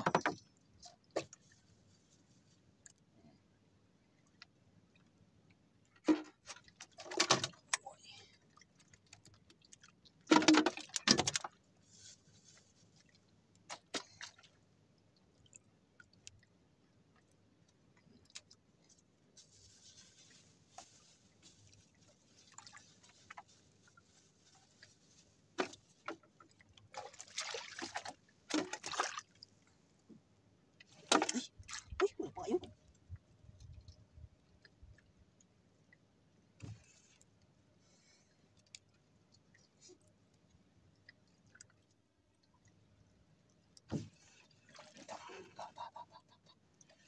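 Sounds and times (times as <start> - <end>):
seawater splashing and dripping: 5.8 - 30.0, 30.7 - 47.0.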